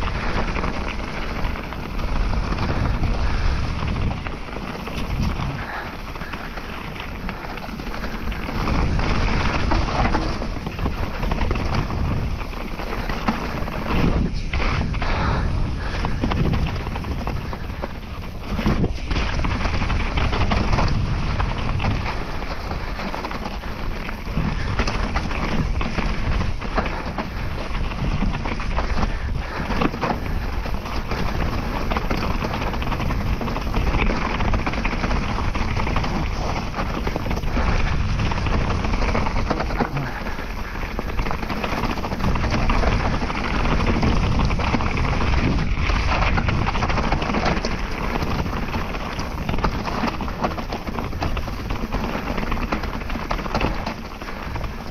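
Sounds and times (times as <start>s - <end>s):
bike knocking and rattling: 0.0s - 54.9s
bike tyre noise: 0.0s - 54.9s
wind on microphone: 0.0s - 54.9s.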